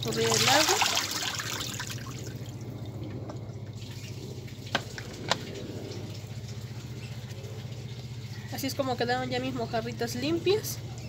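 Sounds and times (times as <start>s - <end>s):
steady low hum: 0.0s - 11.0s
water trickling and dripping: 0.0s - 11.0s.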